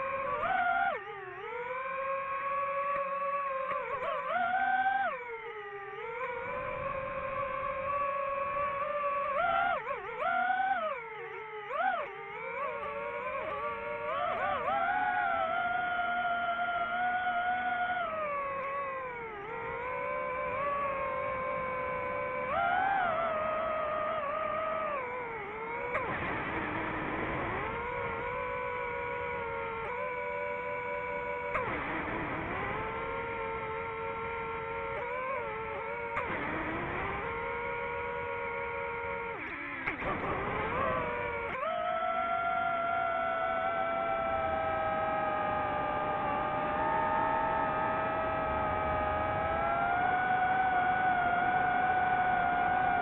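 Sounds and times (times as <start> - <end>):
drone propellers whining: 0.0 - 53.0.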